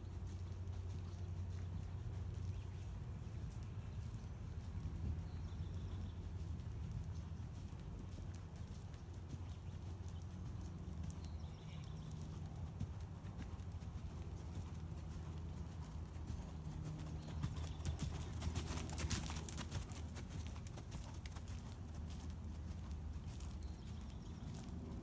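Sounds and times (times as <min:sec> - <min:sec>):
hooves thudding on sand: 0:00.0 - 0:25.0.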